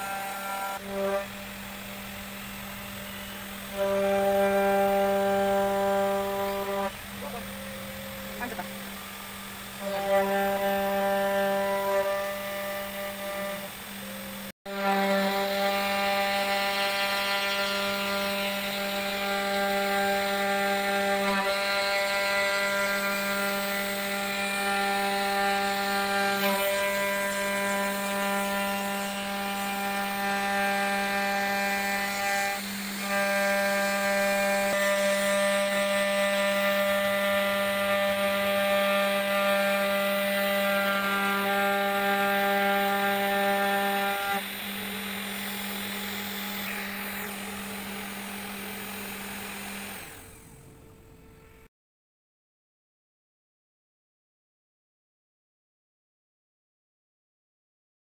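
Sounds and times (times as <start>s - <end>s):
bit engraving wood: 0.0s - 50.4s
router spindle whining: 0.0s - 51.6s.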